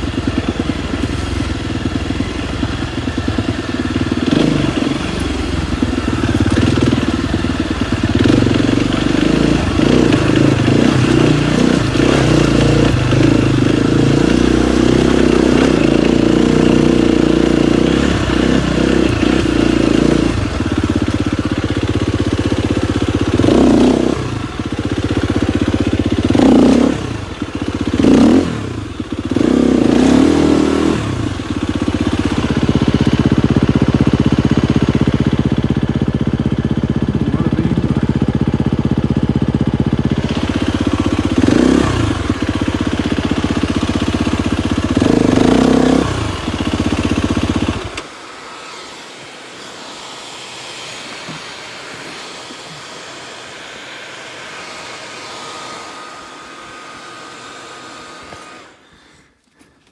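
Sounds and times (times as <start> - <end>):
dirt bike engine revving: 0.0 - 48.2.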